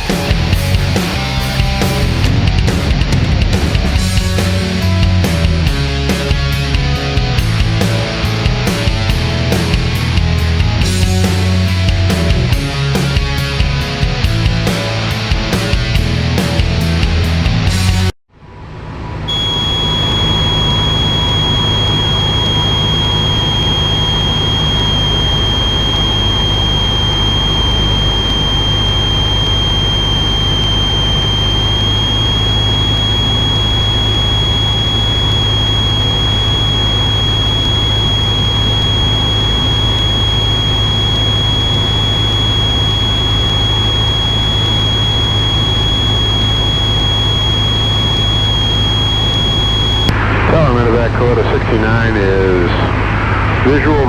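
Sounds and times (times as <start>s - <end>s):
high-pitched whine: 0.0s - 18.1s, 19.0s - 54.0s.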